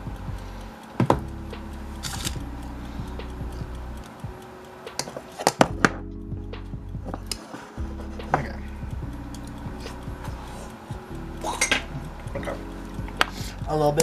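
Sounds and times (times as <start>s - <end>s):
low steady hum: 0.0s - 4.8s, 5.7s - 14.0s.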